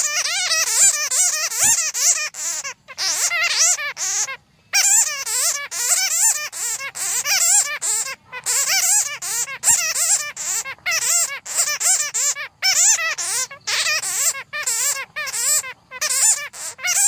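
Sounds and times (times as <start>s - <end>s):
bats chattering: 0.0s - 17.0s.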